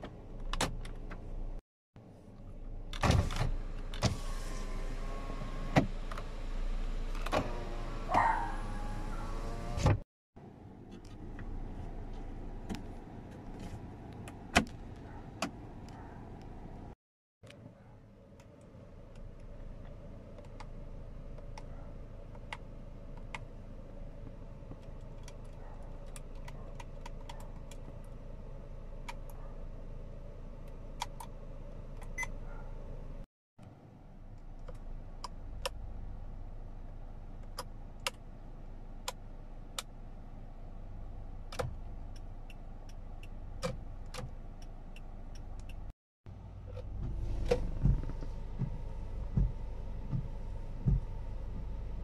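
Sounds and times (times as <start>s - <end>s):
low hum in car cabin: 0.0s - 52.0s.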